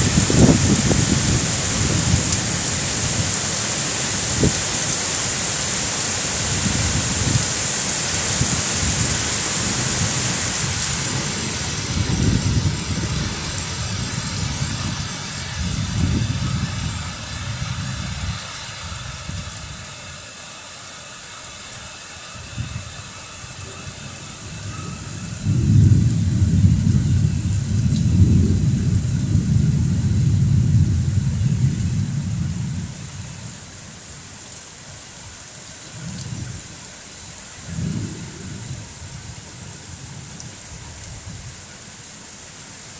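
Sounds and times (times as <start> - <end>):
low thunder rumbles: 0.0 - 20.2, 22.4 - 34.1, 37.6 - 41.6
heavy rain pouring: 0.0 - 42.9.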